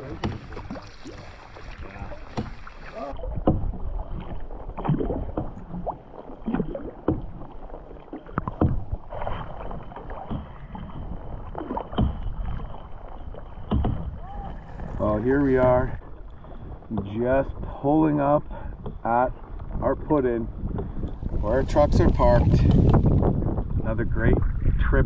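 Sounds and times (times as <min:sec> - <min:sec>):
paddles splashing in water: 0:00.0 - 0:23.8.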